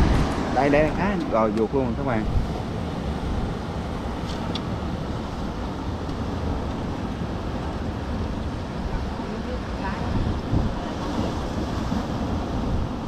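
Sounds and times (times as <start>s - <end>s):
sea surf washing among boulders: 0.0s - 13.0s
wind buffeting microphone: 0.0s - 13.0s.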